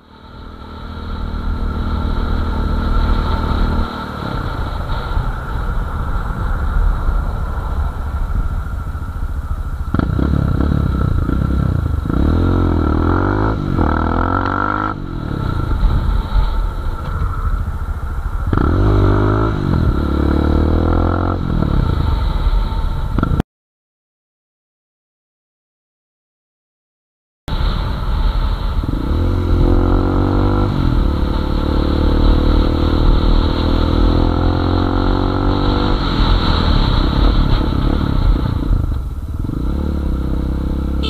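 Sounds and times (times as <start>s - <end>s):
motorcycle engine accelerating: 0.0s - 23.4s, 27.5s - 41.0s
wind noise: 0.0s - 23.4s, 27.5s - 41.0s.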